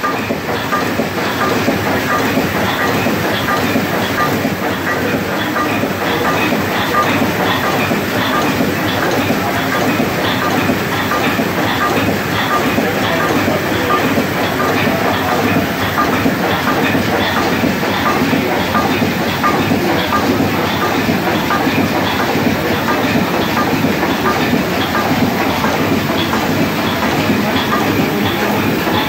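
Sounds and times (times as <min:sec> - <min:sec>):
steam engine running: 0:00.0 - 0:29.0.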